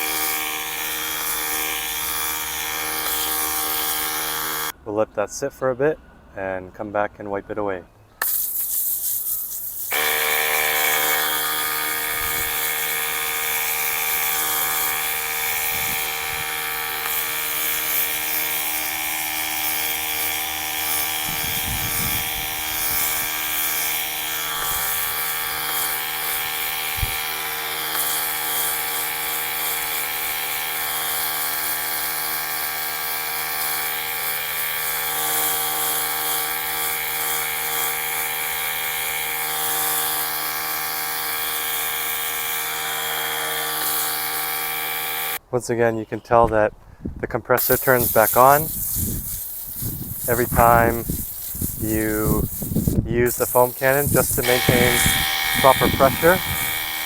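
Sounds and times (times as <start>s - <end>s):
electric compressor running: 0.0s - 4.8s, 9.7s - 45.4s, 47.7s - 57.0s.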